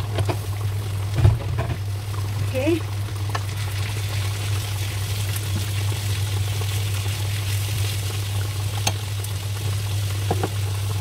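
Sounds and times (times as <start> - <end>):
constant low hum: 0.0 - 11.0
meat sizzling in frying pan: 0.0 - 11.0.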